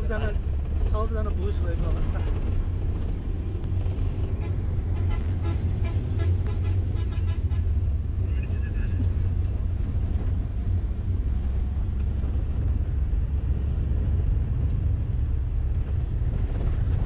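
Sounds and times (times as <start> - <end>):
van engine and road noise: 0.0 - 17.0.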